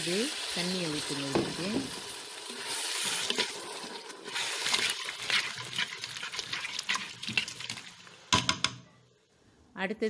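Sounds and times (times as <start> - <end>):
food sizzling and bubbling in pan: 0.0 - 8.4.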